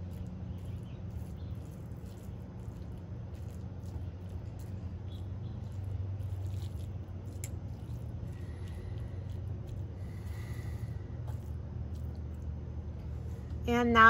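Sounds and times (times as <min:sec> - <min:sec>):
fork stirring squash strands: 0:00.0 - 0:13.6
soft squishing: 0:00.0 - 0:13.7
low background hum: 0:00.0 - 0:14.0.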